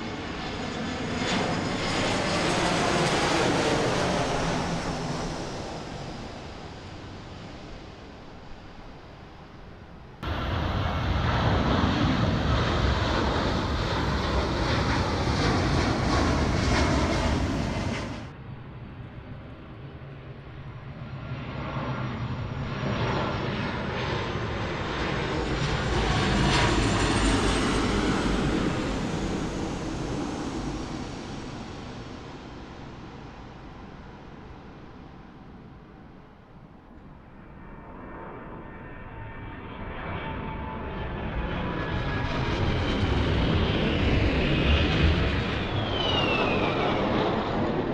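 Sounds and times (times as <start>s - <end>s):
airliner engine noise: 0.0s - 47.9s
jet rumble and turbine whine: 0.0s - 47.9s.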